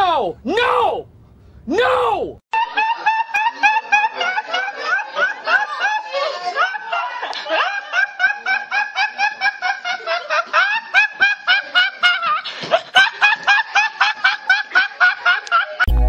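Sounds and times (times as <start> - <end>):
boy laughing hard: 1.7 - 15.9.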